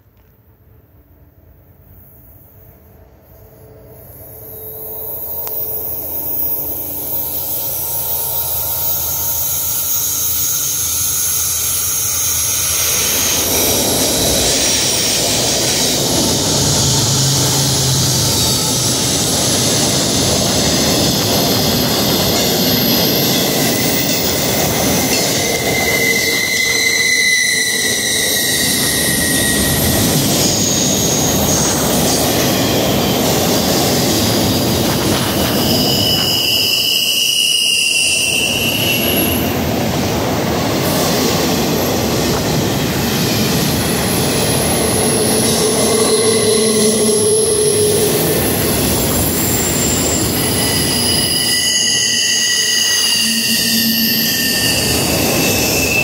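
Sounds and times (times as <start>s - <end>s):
freight train wheels on rails: 0.0s - 56.0s
high-pitched wheel squeals: 4.3s - 39.6s, 43.1s - 56.0s.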